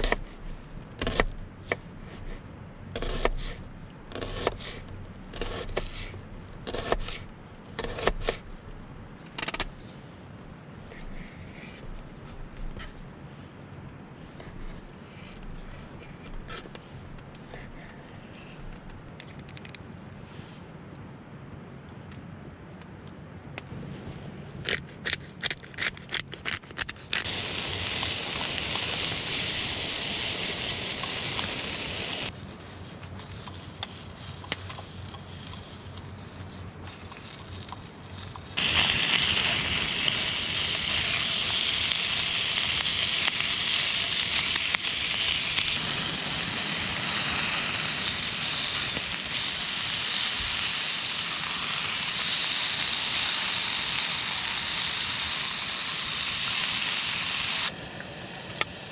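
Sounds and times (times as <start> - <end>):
campfire crackling and hissing: 0.0 - 58.9.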